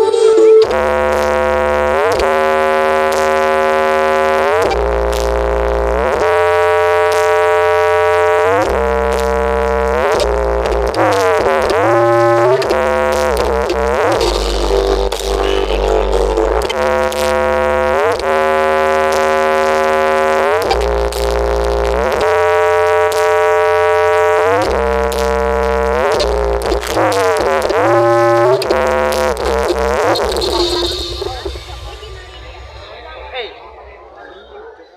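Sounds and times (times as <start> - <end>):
sliding synthesizer lead notes: 0.0 - 34.5
heavy deep bass: 0.0 - 34.6.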